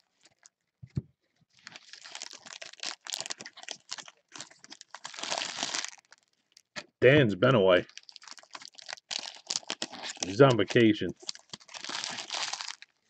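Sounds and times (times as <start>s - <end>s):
wrapper crinkling and tearing: 0.0s - 0.5s, 1.5s - 6.8s, 7.8s - 13.0s.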